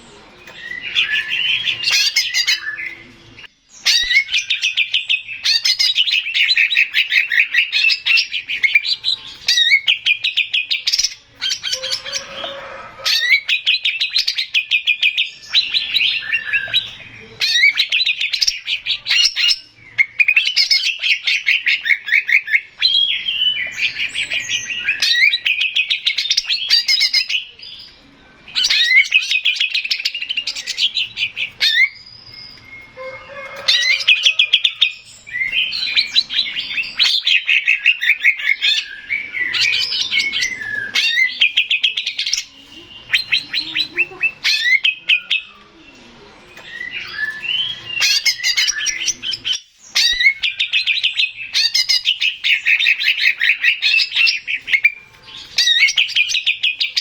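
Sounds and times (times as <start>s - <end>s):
bird singing trilled notes: 0.0s - 57.0s.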